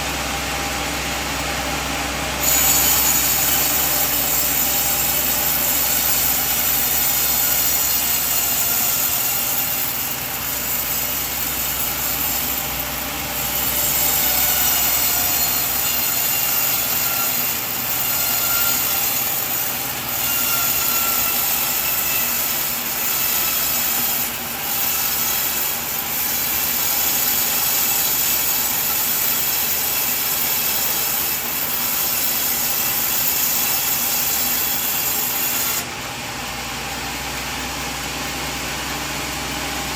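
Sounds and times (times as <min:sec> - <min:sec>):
bandsaw cutting through log: 0:00.0 - 0:39.9.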